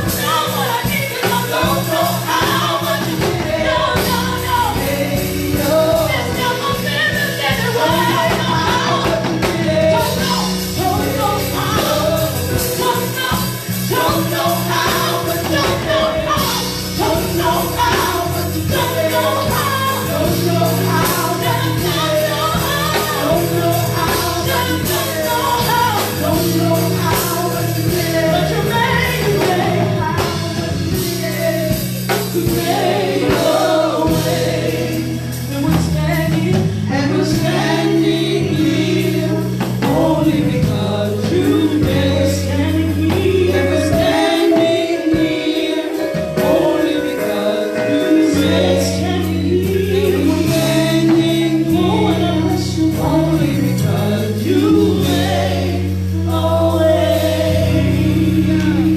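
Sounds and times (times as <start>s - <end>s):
gospel choir singing: 0.0s - 58.9s
live band with bass line: 0.0s - 58.9s.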